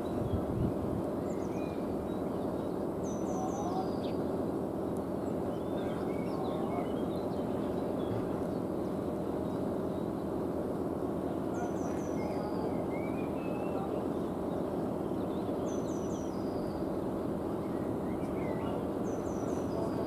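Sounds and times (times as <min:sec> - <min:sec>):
songbirds singing: 0:00.0 - 0:20.0
steady low background noise: 0:00.0 - 0:20.0.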